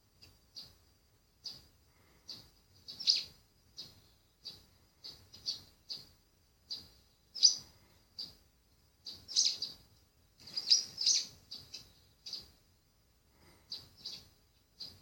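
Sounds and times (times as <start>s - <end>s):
songbirds chirping through speaker: 0.2s - 0.8s, 1.4s - 15.0s.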